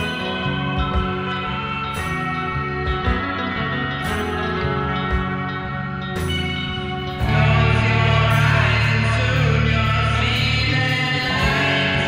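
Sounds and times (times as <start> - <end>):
person singing: 0.0 - 4.4, 6.2 - 12.0
rock band playing: 0.0 - 12.0.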